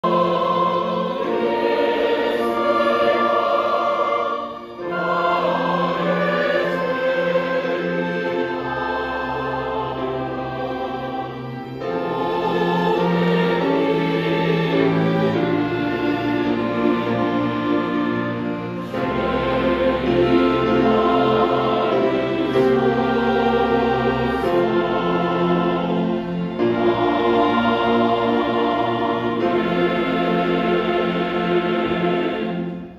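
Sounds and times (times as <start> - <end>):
choir singing a hymn: 0.0 - 32.9
small orchestra playing: 0.0 - 32.9.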